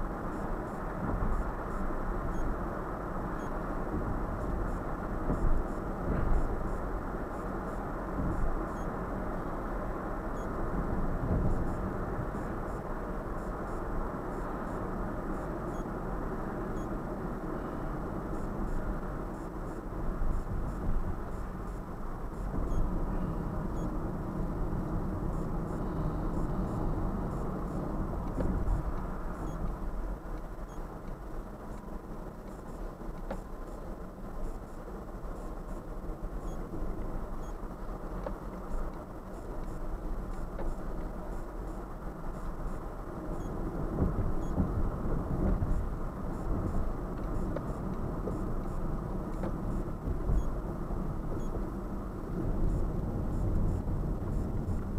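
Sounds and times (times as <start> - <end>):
tyre and engine rumble in car: 0.0 - 54.9.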